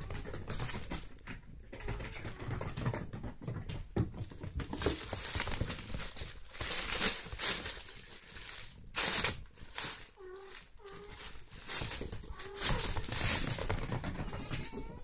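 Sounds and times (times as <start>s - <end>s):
kittens scuffling on mats: 0.0s - 15.0s.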